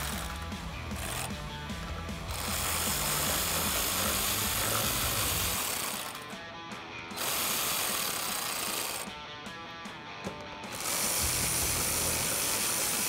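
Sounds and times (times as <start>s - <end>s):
electric ratchet motor whirring: 0.0s - 6.4s, 7.1s - 9.2s, 10.6s - 13.0s.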